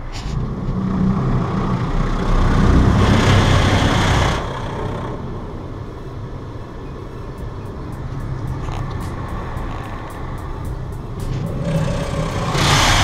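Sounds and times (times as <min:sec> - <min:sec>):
car wash machinery rumble: 0:00.0 - 0:13.0.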